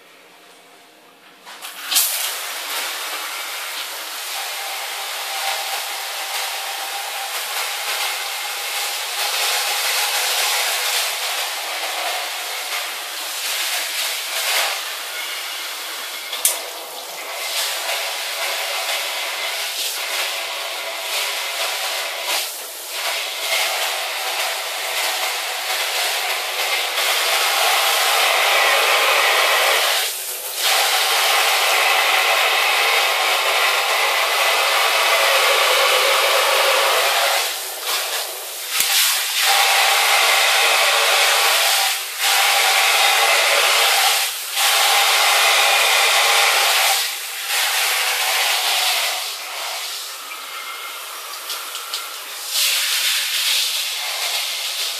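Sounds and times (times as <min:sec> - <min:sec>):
shower spray on tile: 0:01.5 - 0:54.9.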